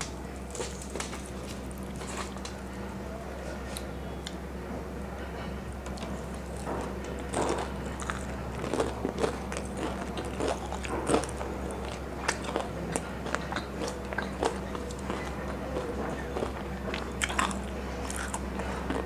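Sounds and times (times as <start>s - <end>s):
crunchy chewing of fried chicken: 0.0s - 3.9s, 5.7s - 19.0s.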